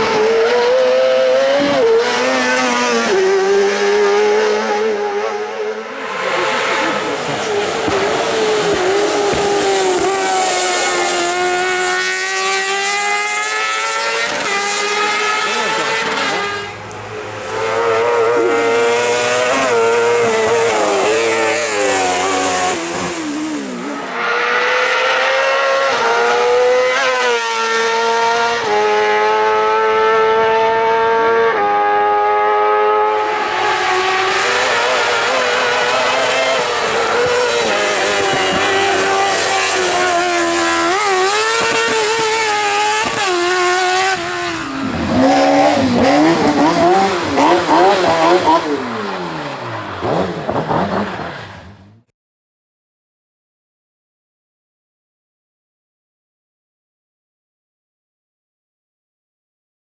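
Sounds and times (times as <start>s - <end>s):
motorbike engine revving hard: 0.0s - 5.5s, 6.3s - 49.4s.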